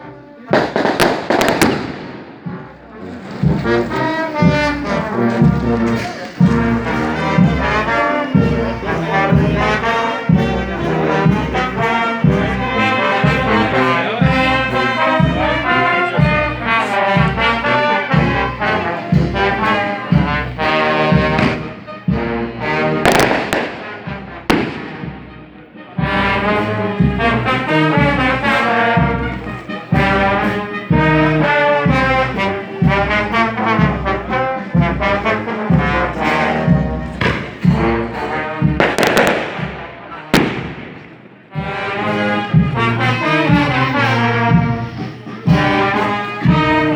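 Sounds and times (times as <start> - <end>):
brass band playing: 0.0 - 46.9.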